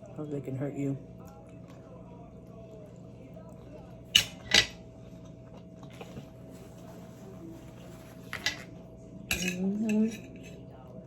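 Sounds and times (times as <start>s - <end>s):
close eating sounds: 0.0s - 11.0s.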